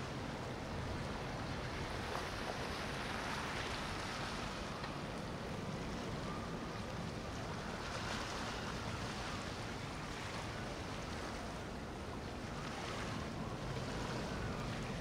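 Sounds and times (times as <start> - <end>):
boat engine rumble: 0.0 - 15.0
water washing along hull: 0.0 - 15.0.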